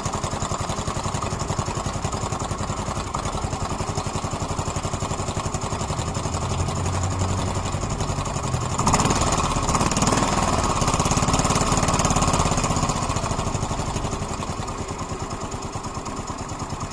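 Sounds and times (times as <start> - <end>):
engine ticking noise: 0.0 - 16.9
scooter engine running: 0.0 - 16.9.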